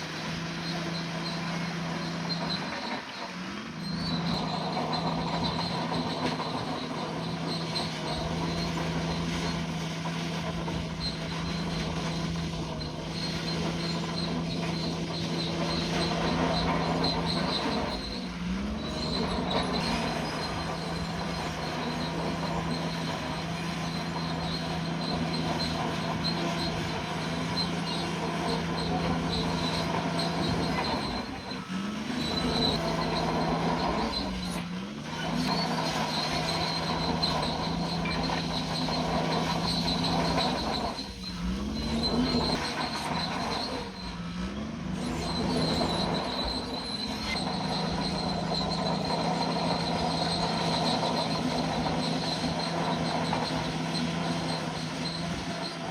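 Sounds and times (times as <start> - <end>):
bulldozer diesel engine: 0.0 - 55.9
steel tracks squealing: 0.0 - 55.9.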